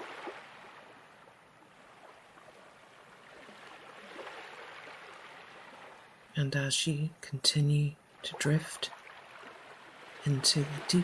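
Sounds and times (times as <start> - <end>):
gentle ocean waves: 0.0 - 11.0.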